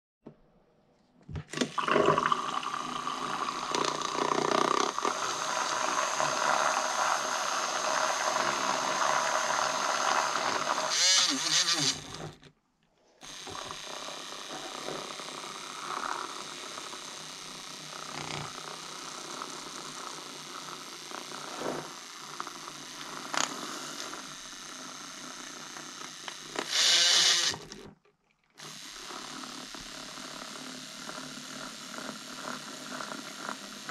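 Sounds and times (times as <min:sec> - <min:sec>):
milk frother whirring: 0:01.5 - 0:12.5, 0:13.2 - 0:27.9, 0:28.6 - 0:33.9.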